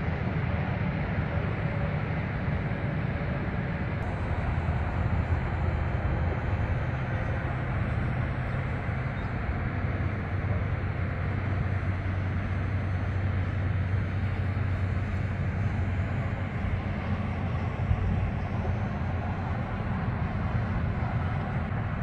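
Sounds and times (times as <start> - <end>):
distant road traffic rumble: 0.0 - 22.0.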